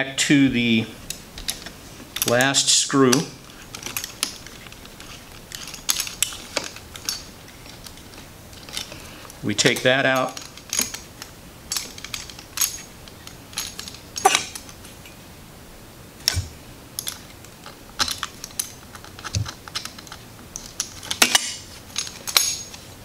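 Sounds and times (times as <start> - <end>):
screwdriver clicks and metallic clinks: 1.1 - 9.0, 9.6 - 15.2, 17.0 - 22.9.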